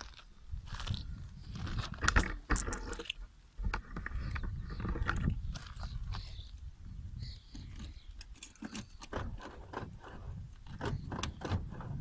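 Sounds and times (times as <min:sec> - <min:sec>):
wind on microphone: 0:00.4 - 0:03.0, 0:03.6 - 0:12.0.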